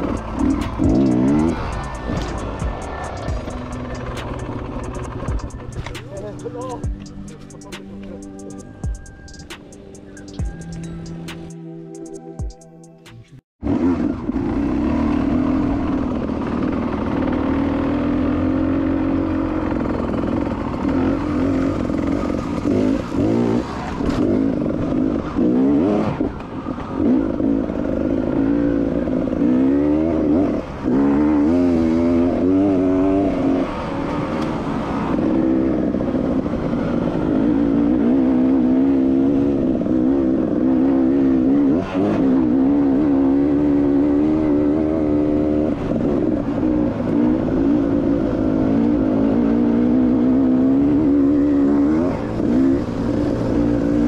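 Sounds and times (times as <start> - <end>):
dirt bike engine revving: 0.0 - 11.6, 13.6 - 54.0.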